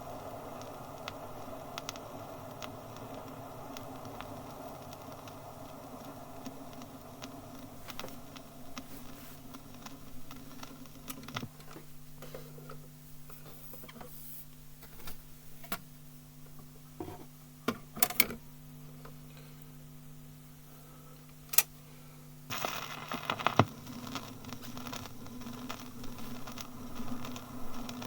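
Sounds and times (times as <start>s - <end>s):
record clicks and crackle: 0.0s - 19.8s, 21.2s - 21.8s, 22.5s - 28.0s
steady low hum: 0.0s - 28.0s.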